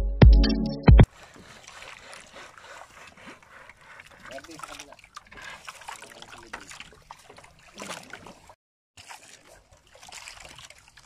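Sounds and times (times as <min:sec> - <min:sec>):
water splashing and trickling: 0:01.0 - 0:11.0.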